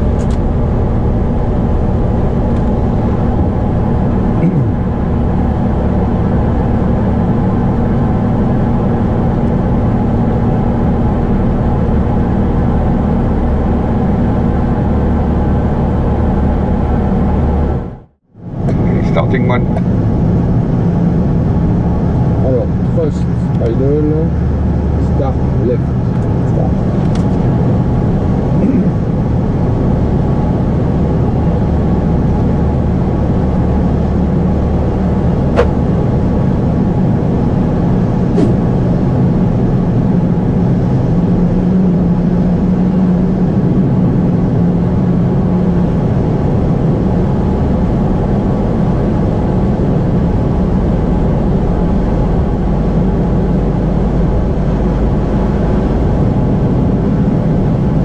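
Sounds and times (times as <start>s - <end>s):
jet engine hum and rumble: 0.0s - 58.0s.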